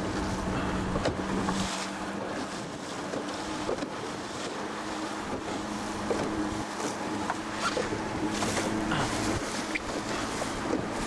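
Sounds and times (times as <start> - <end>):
low motor hum: 0.0 - 11.0
water splashing against boat: 0.0 - 11.0.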